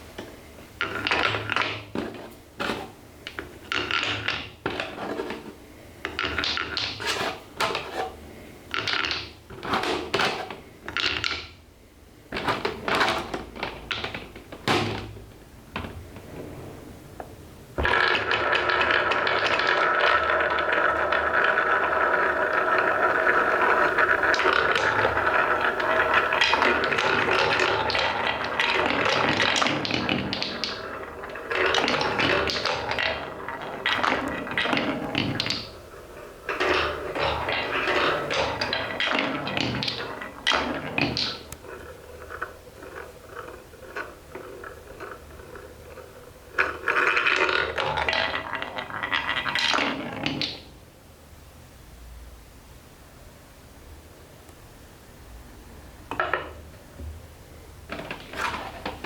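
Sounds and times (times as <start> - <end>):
wooden balls rolling down marble run: 0.0 - 11.6, 12.3 - 50.8, 56.1 - 56.8, 57.8 - 59.0.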